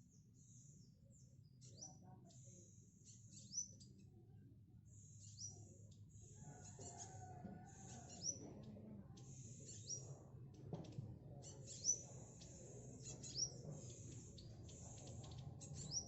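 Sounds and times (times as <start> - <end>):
bird chirping: 0.1 - 4.0, 4.9 - 10.1, 11.4 - 16.0.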